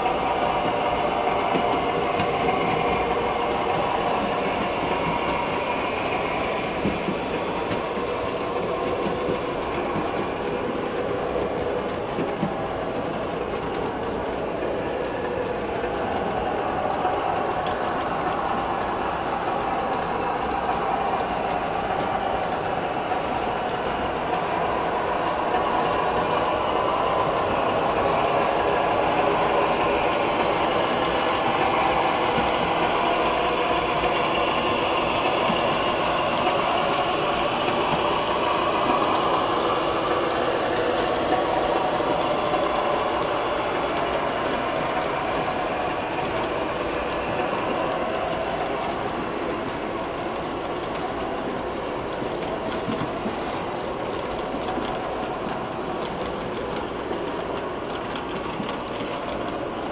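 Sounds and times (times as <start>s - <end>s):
model train wheels rolling: 0.0s - 59.9s.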